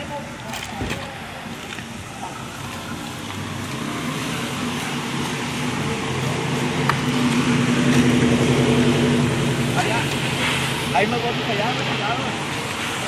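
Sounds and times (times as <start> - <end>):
vehicle engine approaching: 1.9 - 13.0.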